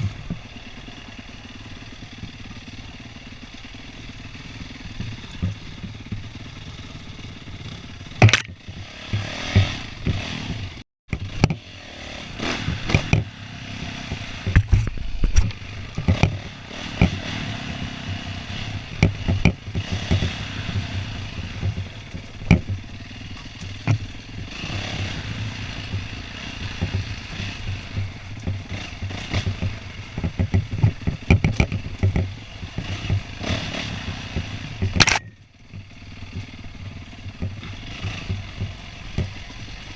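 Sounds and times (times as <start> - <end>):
dirt bike engine revving: 0.0 - 39.9
bike knocking over bumps: 4.3 - 11.6, 14.1 - 18.3, 18.9 - 39.6.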